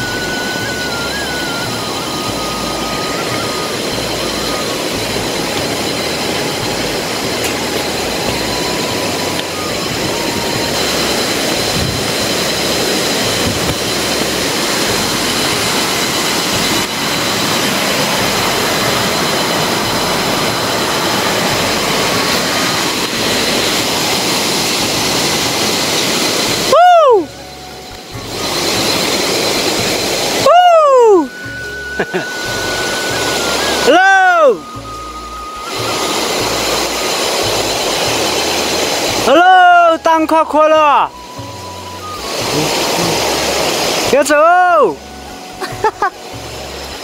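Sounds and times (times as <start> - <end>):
river rushing loudly: 0.0 - 47.0.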